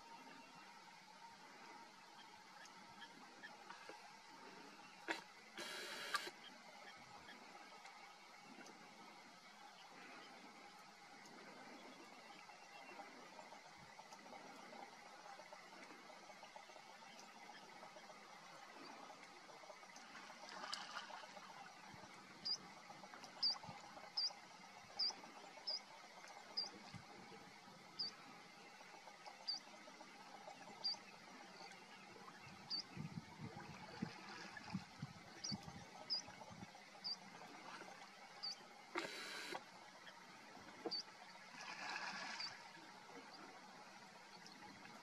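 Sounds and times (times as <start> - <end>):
soft outdoor hiss: 0.0 - 45.0.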